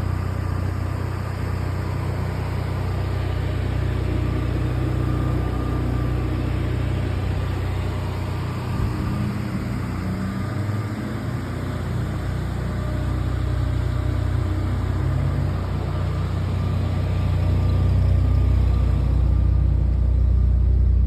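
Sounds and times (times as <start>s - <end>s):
rotary engine exhaust note: 0.0s - 21.0s.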